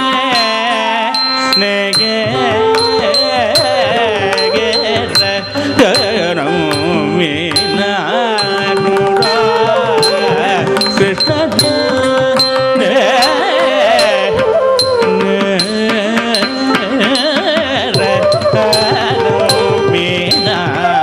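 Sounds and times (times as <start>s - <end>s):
ornamented melody: 0.0s - 21.0s
sharp percussion strokes: 0.0s - 21.0s.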